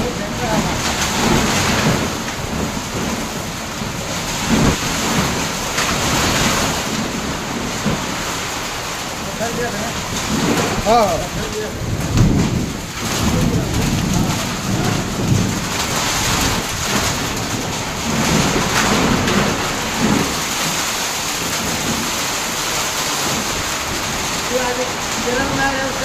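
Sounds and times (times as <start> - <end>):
heavy rain hissing: 0.0 - 26.0
low rumbles: 0.0 - 26.0.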